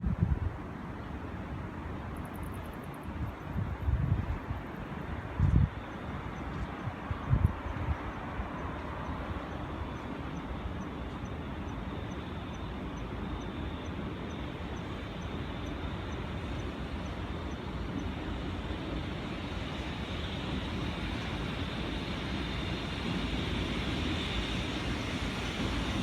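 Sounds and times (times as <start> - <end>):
freight train rolling past: 0.4 - 26.0.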